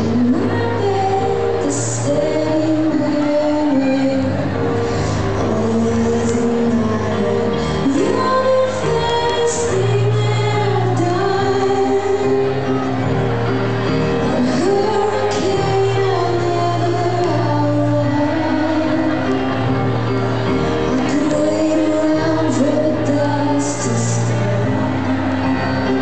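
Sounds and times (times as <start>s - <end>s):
live band playing: 0.0s - 26.0s
person singing: 0.0s - 26.0s.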